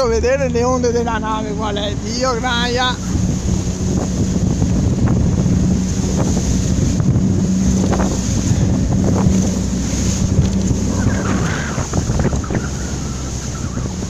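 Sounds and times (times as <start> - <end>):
motorboat engine running: 0.0 - 14.0
wind buffeting microphone: 0.0 - 14.0
hull slapping through waves: 0.4 - 14.0.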